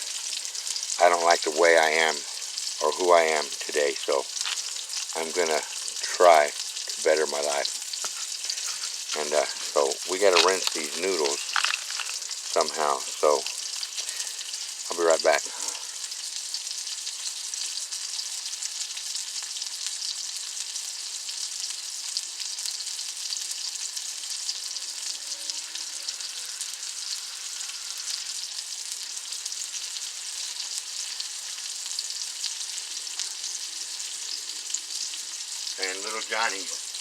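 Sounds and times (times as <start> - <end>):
food sizzling on a grill: 0.0 - 37.0.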